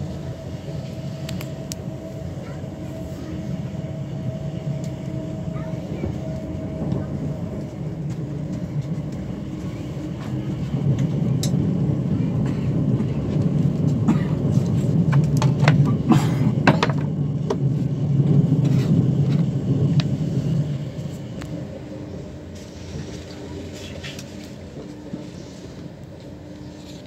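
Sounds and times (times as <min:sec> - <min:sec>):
train running rumble: 0:00.0 - 0:27.0.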